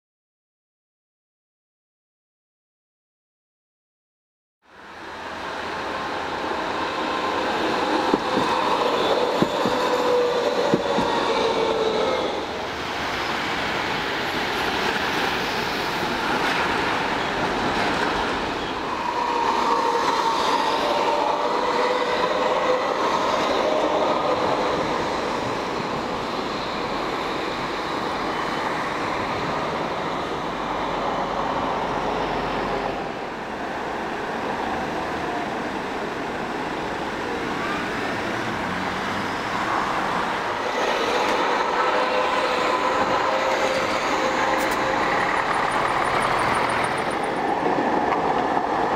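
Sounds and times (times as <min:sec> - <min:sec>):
street traffic noise: 0:04.7 - 0:48.9
tram wheels rumbling on rails: 0:04.8 - 0:48.9.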